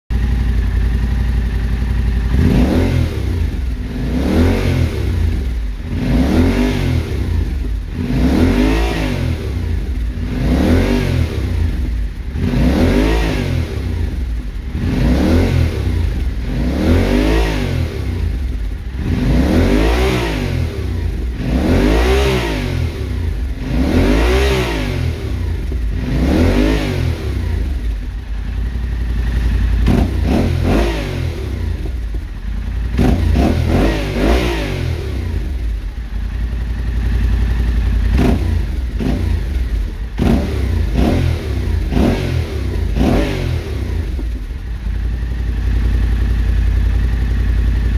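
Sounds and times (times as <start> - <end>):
motorcycle engine revving: 0.1 - 47.9.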